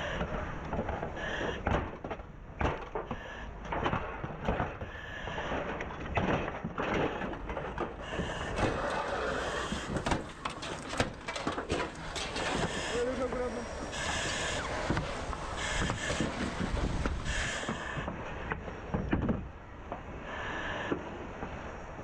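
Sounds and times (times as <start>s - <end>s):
burnt material cracking and scraping: 0.2s - 18.5s.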